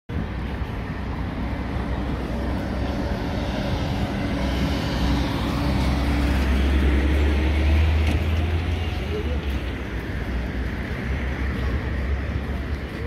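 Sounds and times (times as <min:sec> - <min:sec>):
low engine rumble: 0:00.1 - 0:13.0.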